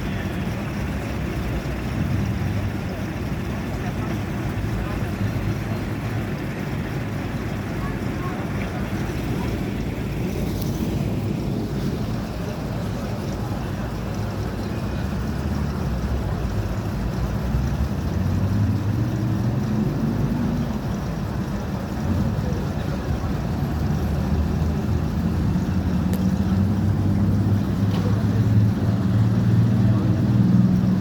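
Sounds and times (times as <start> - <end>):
engine running: 0.0 - 31.0
steady wash of noise: 0.0 - 31.0.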